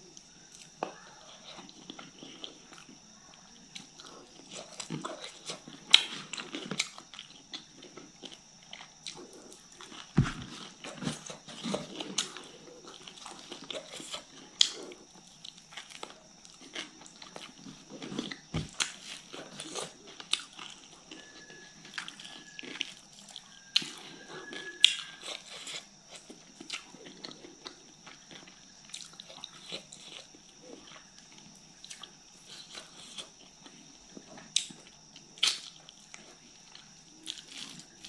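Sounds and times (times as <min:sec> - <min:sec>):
crunching salad: 0:00.2 - 0:38.0.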